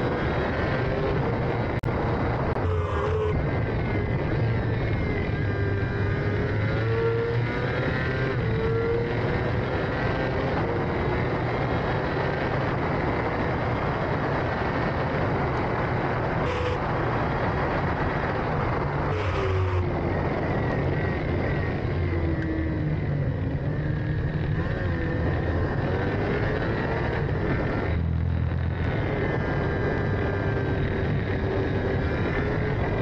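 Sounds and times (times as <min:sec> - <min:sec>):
motorcycle engine running hard: 0:00.0 - 0:33.0.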